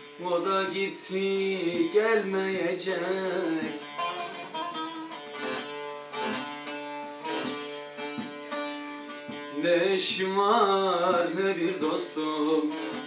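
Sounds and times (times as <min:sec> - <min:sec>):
plucked saz melody: 0:00.0 - 0:13.0.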